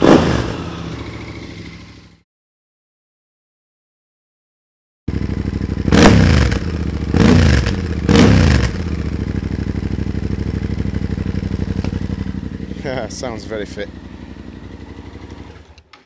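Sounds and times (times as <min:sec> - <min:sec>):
motorcycle engine idling and revving: 0:00.0 - 0:02.2, 0:05.1 - 0:16.0.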